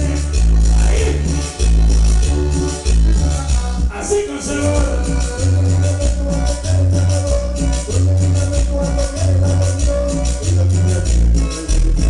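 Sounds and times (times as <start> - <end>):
loud dance music with heavy bass: 0.0 - 12.0.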